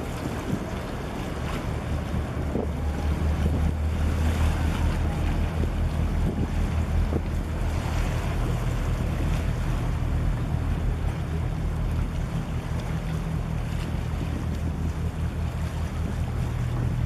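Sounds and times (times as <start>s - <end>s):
ship engine drone: 0.0s - 17.0s
waves washing: 0.0s - 17.0s
wind buffeting microphone: 0.0s - 17.0s.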